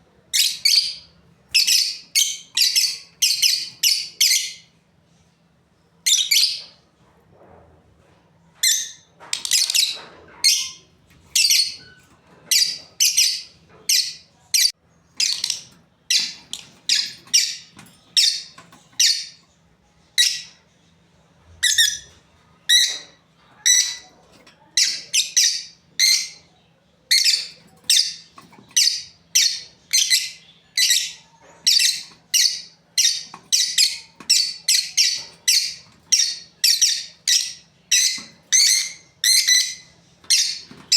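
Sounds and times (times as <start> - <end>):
lovebirds chirping: 0.2 - 4.7, 8.6 - 40.9.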